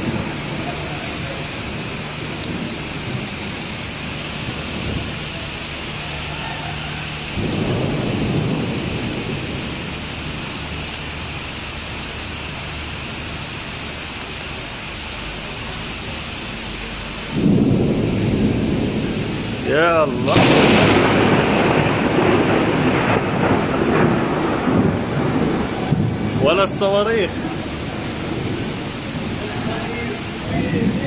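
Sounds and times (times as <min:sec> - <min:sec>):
thunder rumbling: 0:00.0 - 0:12.4, 0:16.9 - 0:31.0
heavy rain falling: 0:00.0 - 0:31.0.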